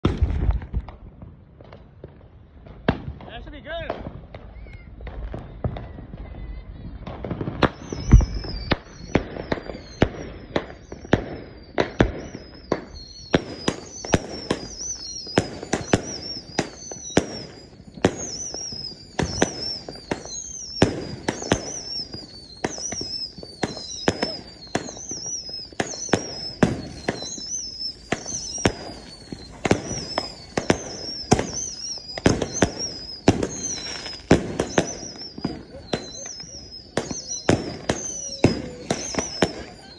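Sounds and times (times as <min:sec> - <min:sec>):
firework bangs: 0:00.0 - 0:39.9
firework whistle falling in pitch: 0:04.3 - 0:39.9.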